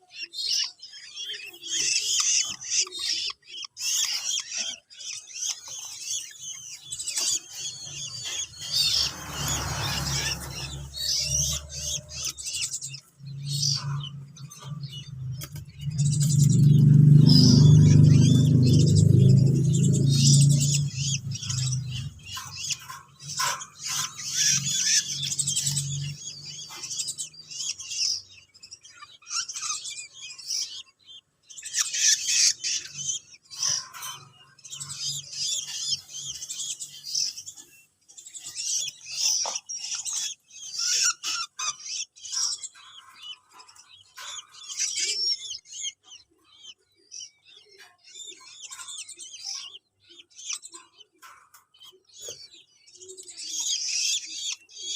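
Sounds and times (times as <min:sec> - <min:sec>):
young songbirds chirping: 0:00.0 - 0:54.9.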